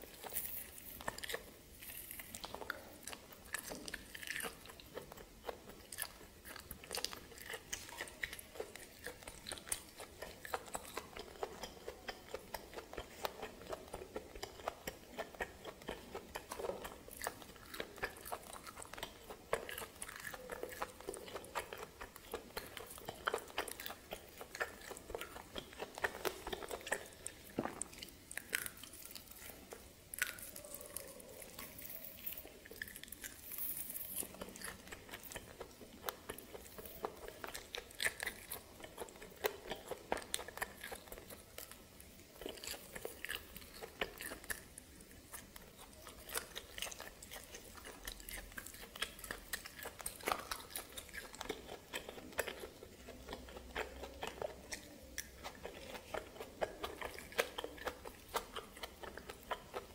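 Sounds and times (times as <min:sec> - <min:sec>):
chewing with small crunches: 0:00.0 - 0:59.9.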